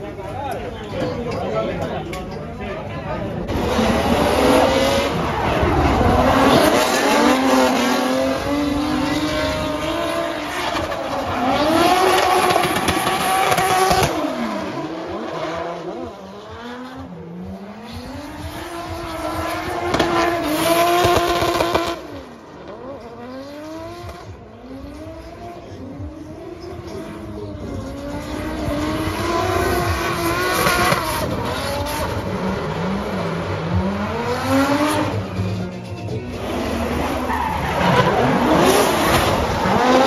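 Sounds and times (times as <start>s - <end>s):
car engine revving: 3.2s - 40.0s.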